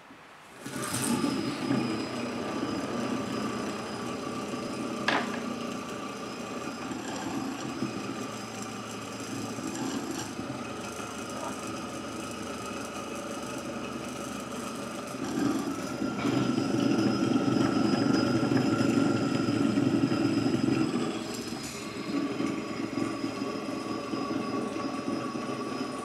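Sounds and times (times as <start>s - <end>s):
gyroscope disc whirring: 0.6s - 26.0s.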